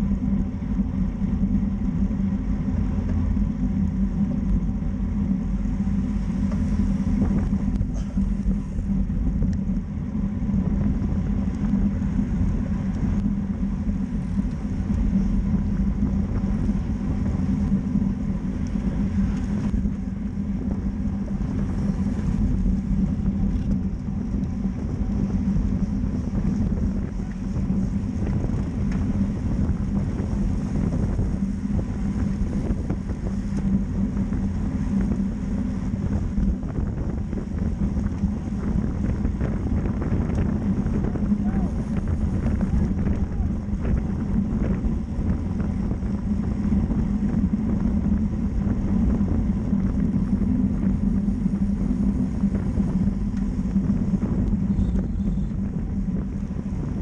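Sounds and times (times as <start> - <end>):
rolling road noise rumble: 0.0 - 57.0
wind rushing on microphone: 0.0 - 57.0.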